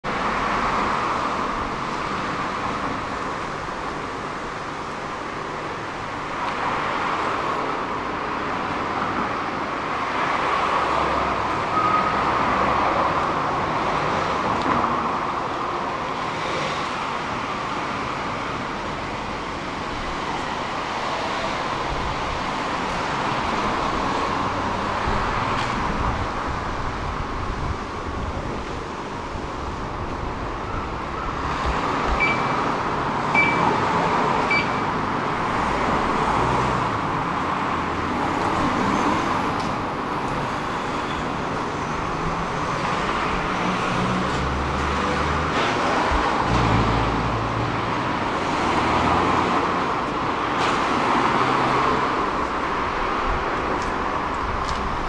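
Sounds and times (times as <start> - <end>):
passing cars: 0.0 - 55.0.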